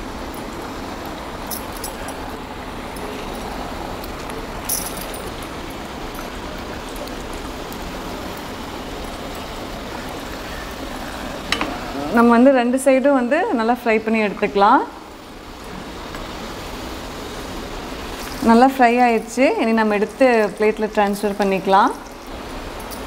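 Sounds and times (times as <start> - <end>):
hot oil sizzling: 0.0 - 22.8.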